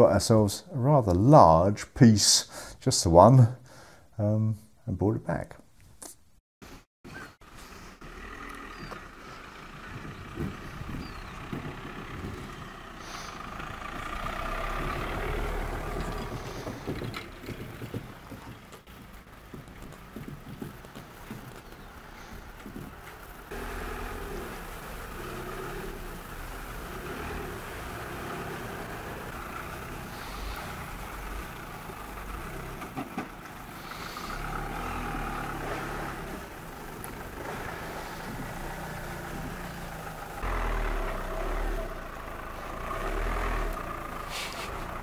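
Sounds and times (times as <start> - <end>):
car engine at low revs: 7.4 - 45.0.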